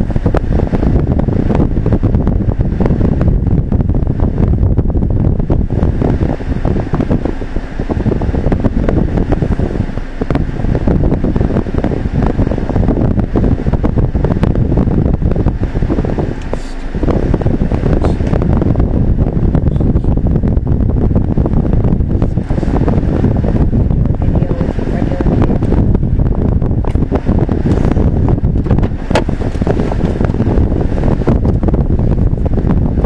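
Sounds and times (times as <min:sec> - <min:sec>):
car cabin rumble: 0:00.0 - 0:33.0.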